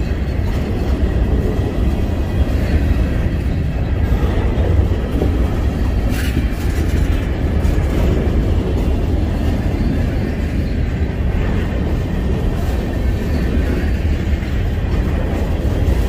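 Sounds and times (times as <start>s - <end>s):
freight train rumbling on rails: 0.0s - 16.0s.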